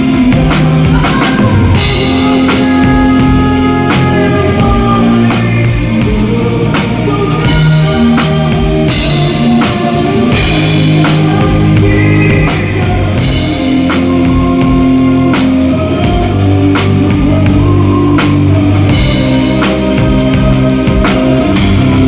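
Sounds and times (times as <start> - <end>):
drum kit playing: 0.0 - 22.0
rock music: 0.0 - 22.0.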